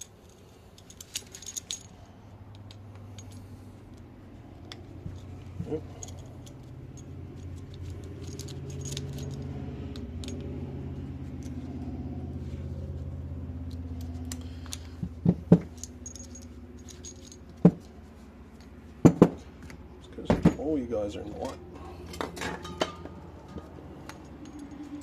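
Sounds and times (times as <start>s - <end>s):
small metal parts clinking: 0.0s - 12.0s, 13.6s - 20.6s, 21.3s - 25.0s
steady low hum: 0.0s - 25.0s.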